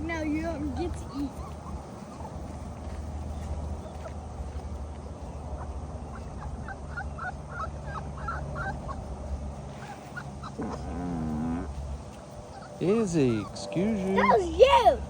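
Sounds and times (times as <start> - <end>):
puppies squeaking: 0.0 - 4.1, 5.5 - 15.0
steady low hum: 0.0 - 15.0
steady low rumble: 0.0 - 15.0.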